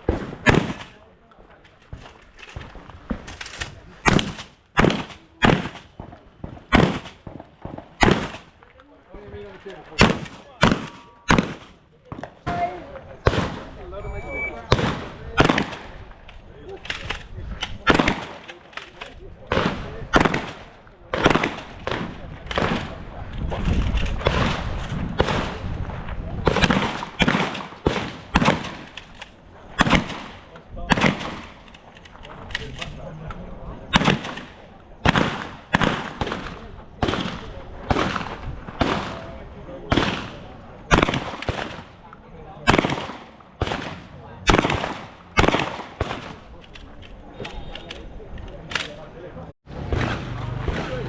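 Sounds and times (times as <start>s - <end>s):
shotgun shots echoing: 0.0s - 1.1s, 1.9s - 8.6s, 9.6s - 16.2s, 16.8s - 25.7s, 26.4s - 33.1s, 33.7s - 49.1s.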